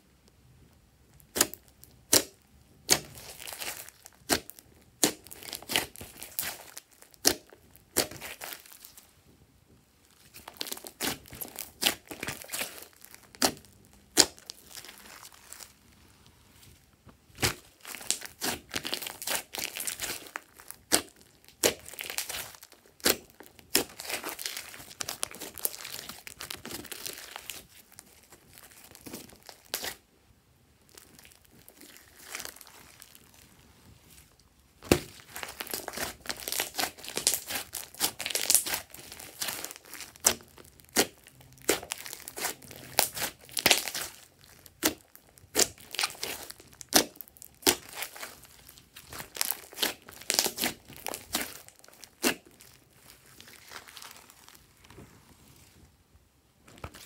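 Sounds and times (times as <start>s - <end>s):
slime squelching and popping: 1.1s - 9.0s, 10.1s - 15.7s, 17.3s - 30.0s, 34.8s - 54.6s.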